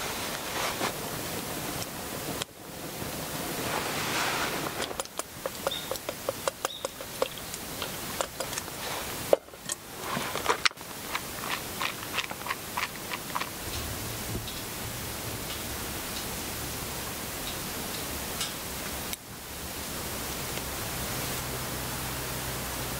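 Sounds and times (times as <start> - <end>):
rushing hiss: 0.0 - 22.9.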